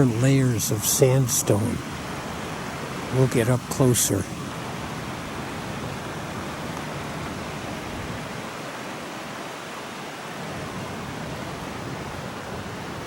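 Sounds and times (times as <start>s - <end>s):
waterfall and creek rushing: 0.0s - 13.0s.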